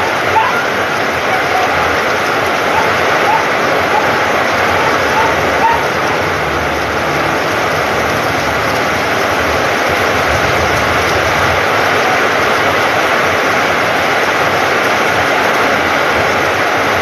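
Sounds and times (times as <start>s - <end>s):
heavy rain on flooded ground: 0.0s - 17.0s.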